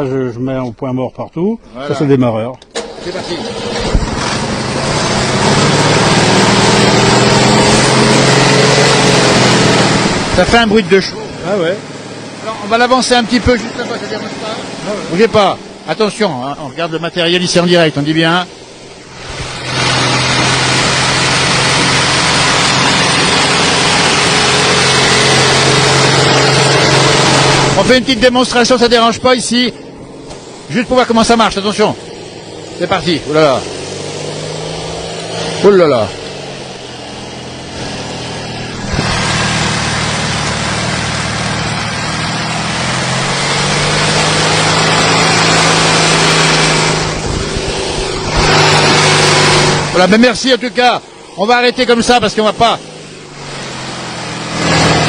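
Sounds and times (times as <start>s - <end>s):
snowblower engine running: 2.6s - 55.0s.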